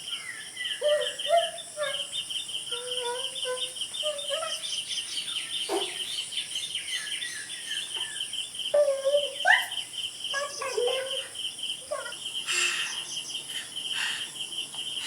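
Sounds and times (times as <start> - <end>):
bird calls: 0.0 - 15.0
high-pitched insect hum: 0.0 - 15.0
insects chirping: 0.0 - 15.0.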